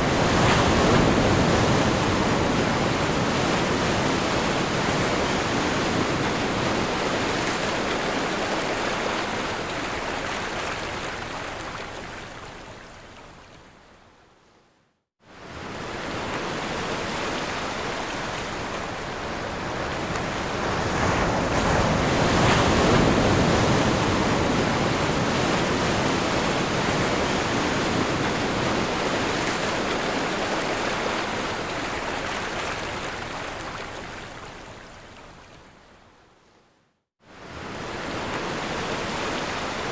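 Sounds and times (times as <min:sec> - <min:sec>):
ocean surf washing on shore: 0:00.0 - 0:13.0, 0:15.2 - 0:35.1, 0:37.2 - 0:39.9.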